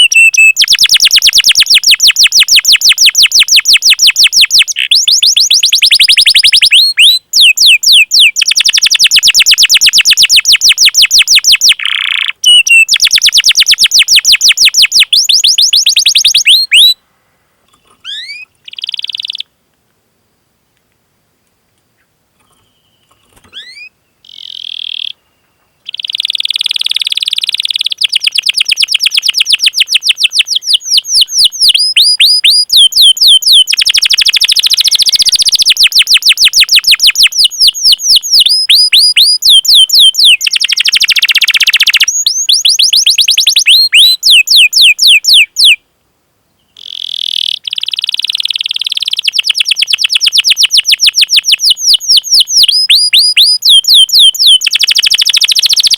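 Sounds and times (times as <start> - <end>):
canary chirping: 0.0 - 17.0, 17.7 - 19.5, 22.4 - 45.8, 46.8 - 55.9.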